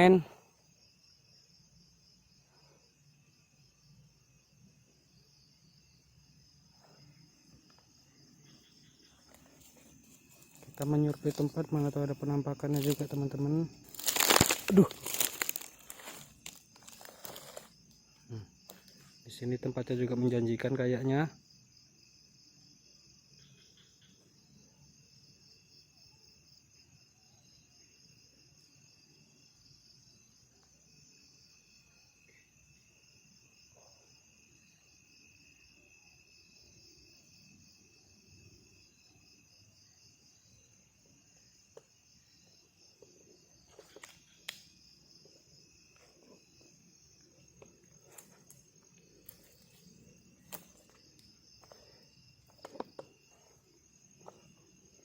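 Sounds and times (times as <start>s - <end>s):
night insects chirring: 0.0s - 55.0s.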